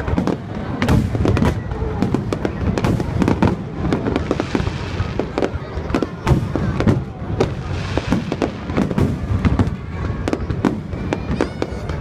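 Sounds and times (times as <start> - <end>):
fireworks bursting: 0.0 - 12.0
sharp bangs and crackles: 0.0 - 12.0.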